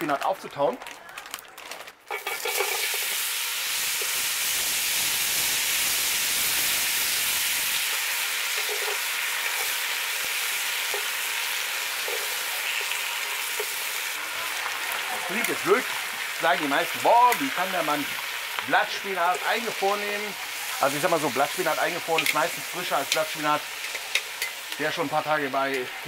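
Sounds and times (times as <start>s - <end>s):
spinach sizzling in hot oil: 2.1s - 26.0s.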